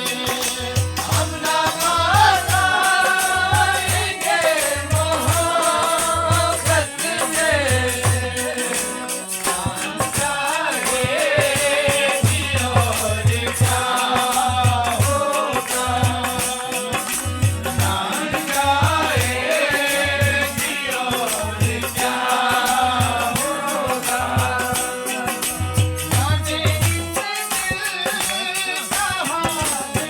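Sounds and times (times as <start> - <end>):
rattling shaker percussion: 0.0 - 30.0.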